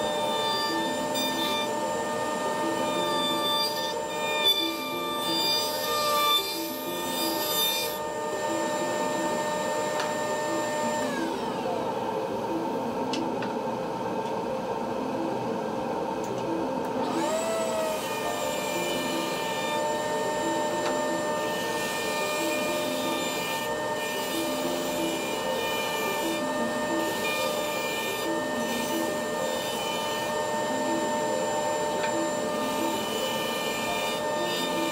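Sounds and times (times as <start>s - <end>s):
saw cutting wood: 0.0s - 11.9s, 17.0s - 34.9s
table saw whine: 0.0s - 34.9s.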